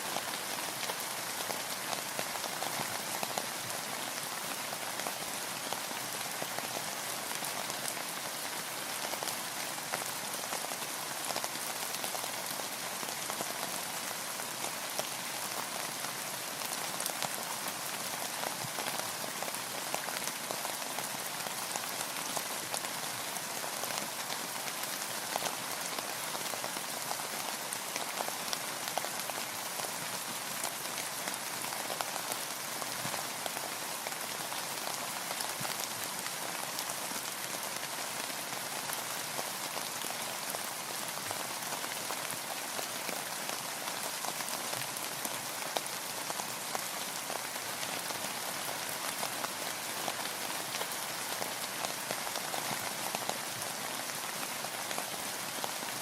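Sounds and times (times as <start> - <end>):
rain falling on a boat: 0.0 - 56.0.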